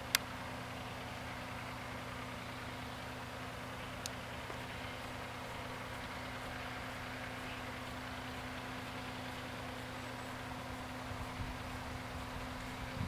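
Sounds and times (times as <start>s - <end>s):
engine idling hum: 0.0s - 13.0s.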